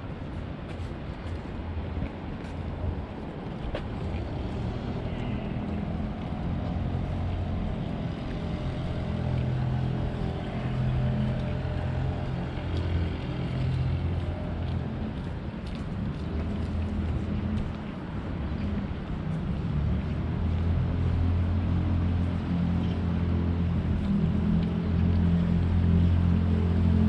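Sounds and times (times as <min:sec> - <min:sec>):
engine hum: 0:03.7 - 0:27.0.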